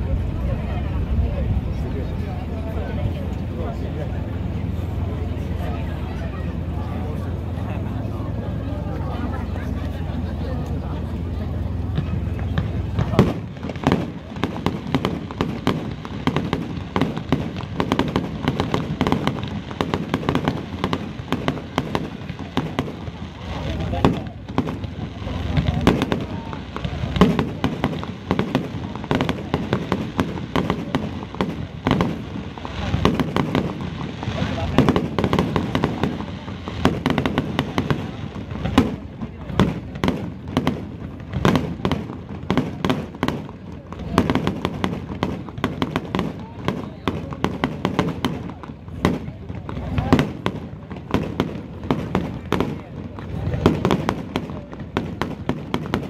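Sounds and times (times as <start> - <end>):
fireworks cracking and popping: 9.2 - 56.0.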